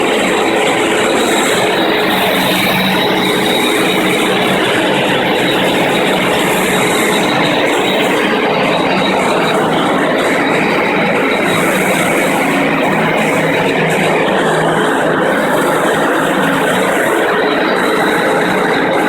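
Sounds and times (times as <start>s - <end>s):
concrete floor grinder grinding: 0.0s - 19.0s.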